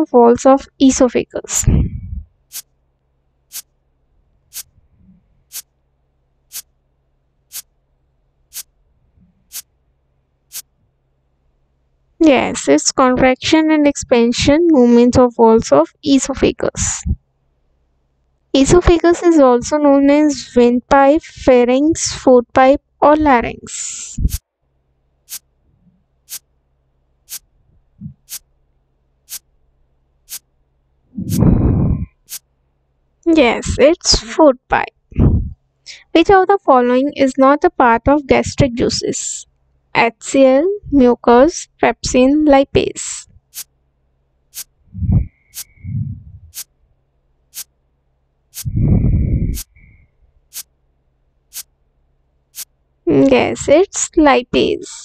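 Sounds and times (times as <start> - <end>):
faint steady low hum: 0.0 - 55.0.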